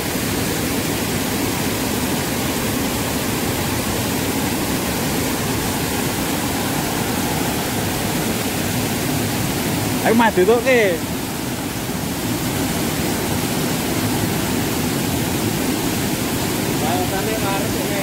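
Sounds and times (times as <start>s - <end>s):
river rushing over cascade: 0.0s - 18.0s.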